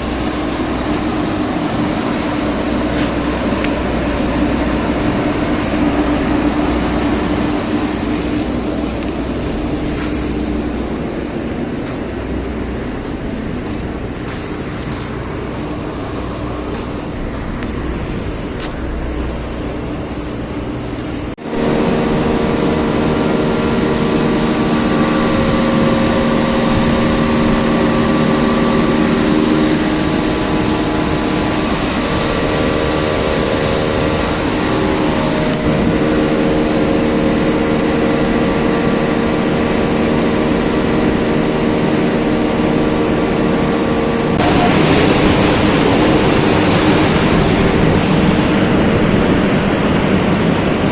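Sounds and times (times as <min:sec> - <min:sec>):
air conditioner units running: 0:00.0 - 0:50.9.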